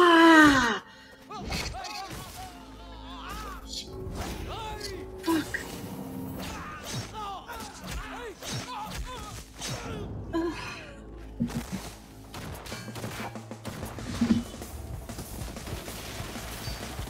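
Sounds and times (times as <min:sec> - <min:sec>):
action film score: 0:00.0 - 0:17.0.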